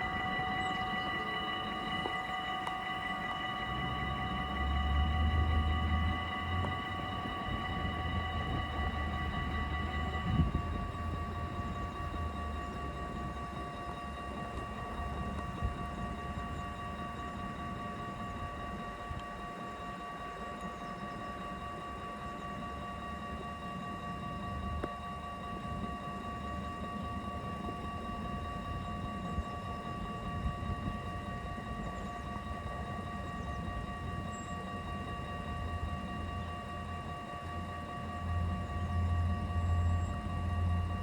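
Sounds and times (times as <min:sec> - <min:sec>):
level crossing warning bells: 0:00.0 - 0:41.0.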